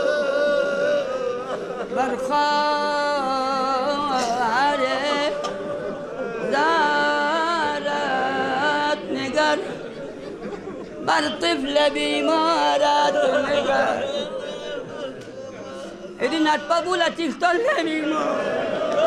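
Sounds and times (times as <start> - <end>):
man chanting a lament: 0.0 - 9.9, 11.0 - 19.0.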